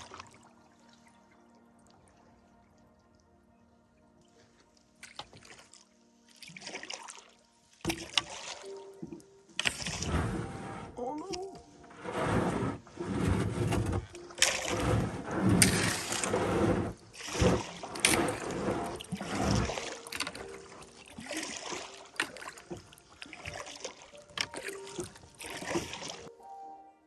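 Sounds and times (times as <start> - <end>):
water sloshing: 0.0 - 3.1, 4.3 - 26.4
paddle splashing water: 0.0 - 3.2, 4.2 - 26.4.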